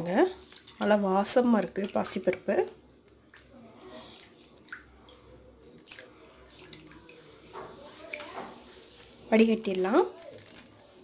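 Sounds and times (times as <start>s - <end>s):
small splashes and drips: 0.0s - 10.0s.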